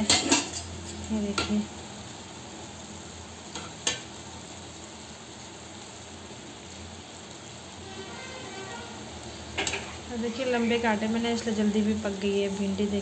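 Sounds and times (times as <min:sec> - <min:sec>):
stir-fry sizzling in a pan: 0:00.0 - 0:13.0.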